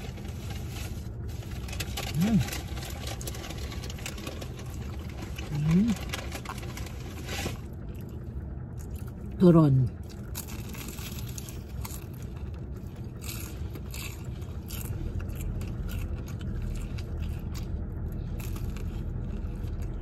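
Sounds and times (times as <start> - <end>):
crunching and chewing: 0.0 - 20.0
steady low hum: 0.0 - 20.0.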